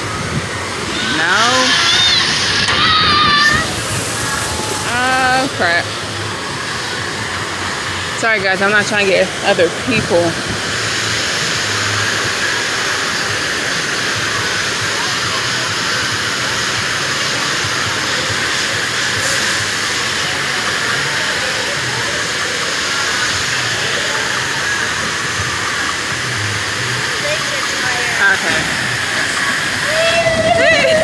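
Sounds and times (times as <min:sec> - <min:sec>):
water rushing down a chute: 0:00.0 - 0:31.0.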